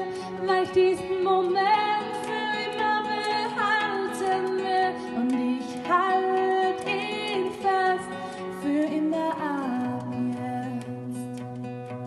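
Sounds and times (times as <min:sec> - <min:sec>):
acoustic guitar: 0:00.0 - 0:12.0
woman singing a slow ballad: 0:00.0 - 0:12.0.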